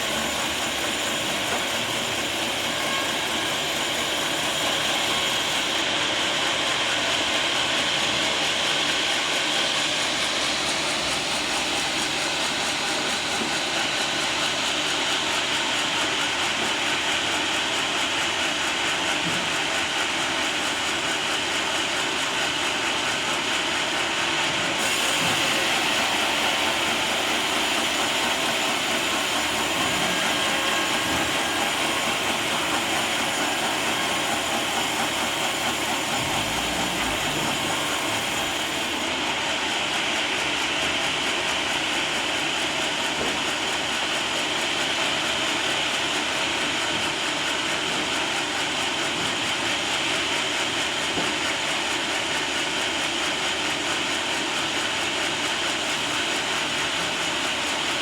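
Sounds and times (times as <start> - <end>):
band saw sawing a log: 0.0 - 17.1, 17.7 - 52.2.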